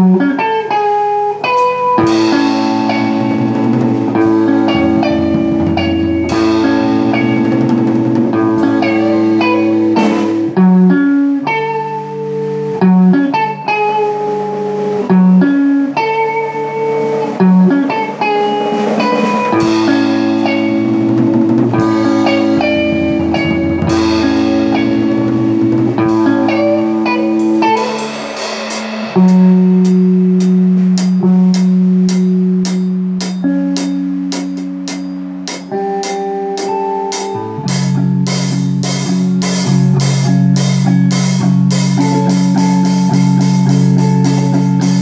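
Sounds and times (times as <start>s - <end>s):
drums and cymbals: 0.0s - 45.0s
electric guitar chords: 0.0s - 45.0s.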